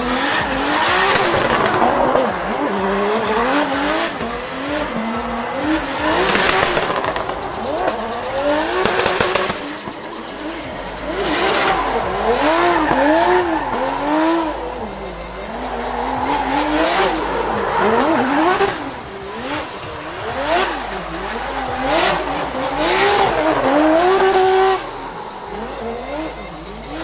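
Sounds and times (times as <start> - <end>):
car engine revving: 0.0 - 27.0
tyres squealing: 0.0 - 27.0.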